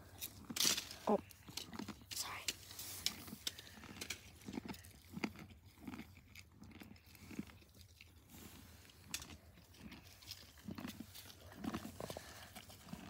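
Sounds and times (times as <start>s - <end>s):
donkey chewing corn: 0.0s - 13.0s.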